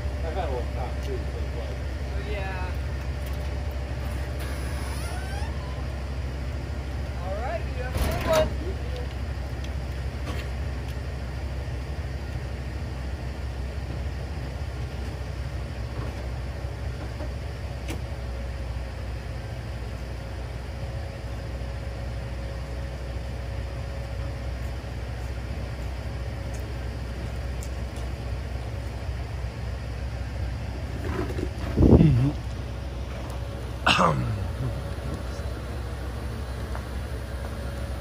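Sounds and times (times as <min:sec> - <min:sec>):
bus engine idling: 0:00.0 - 0:38.0.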